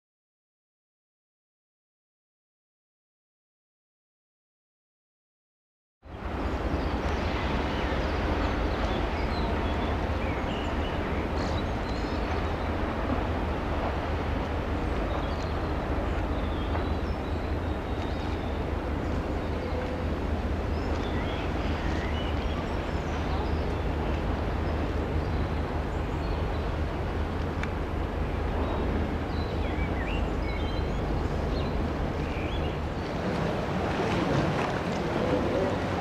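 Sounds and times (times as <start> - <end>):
even wash of noise: 6.1 - 36.0.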